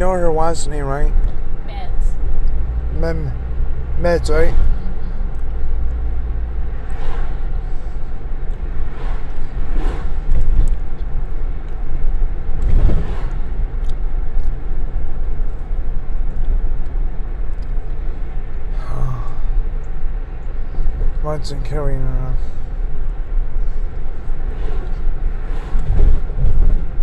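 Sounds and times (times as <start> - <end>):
car cabin road rumble: 0.0 - 27.0.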